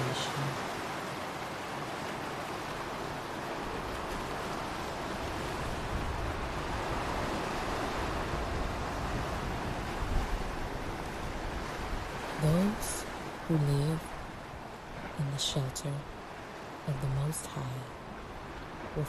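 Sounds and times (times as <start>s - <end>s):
ocean waves washing: 0.0s - 19.0s.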